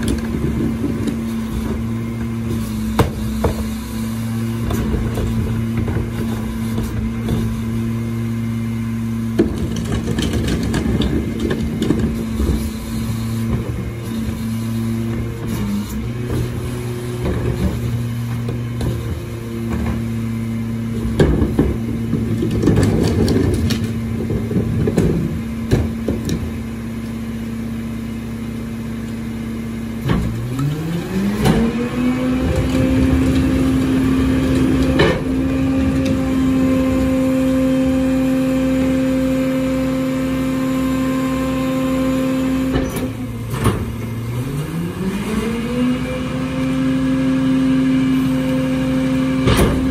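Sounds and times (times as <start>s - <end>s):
garbage truck engine idling and revving: 0.0s - 49.9s.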